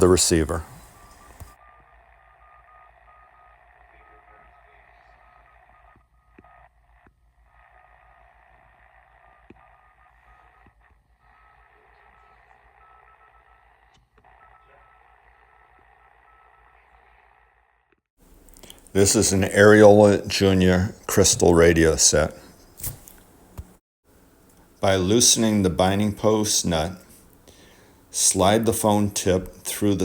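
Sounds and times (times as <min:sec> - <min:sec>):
radio hiss and hum: 0:00.0 - 0:17.2, 0:18.2 - 0:23.7, 0:24.6 - 0:30.0.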